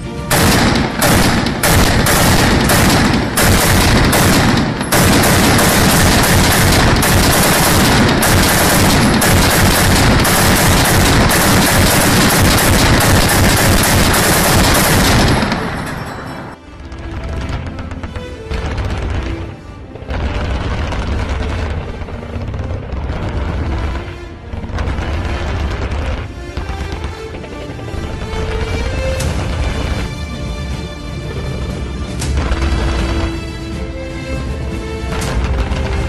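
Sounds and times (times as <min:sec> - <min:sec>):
machine-gun fire: 0:00.3 - 0:30.1, 0:32.2 - 0:33.6, 0:35.1 - 0:36.0.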